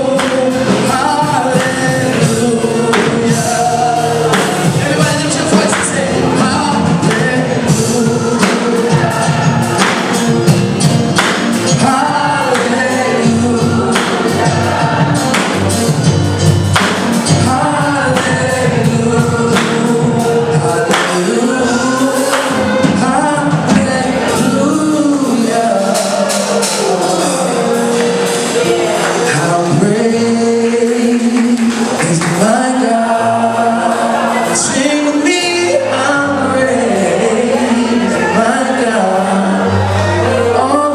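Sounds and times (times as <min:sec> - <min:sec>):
gospel choir singing: 0:00.0 - 0:40.9
instrumental accompaniment: 0:00.0 - 0:40.9.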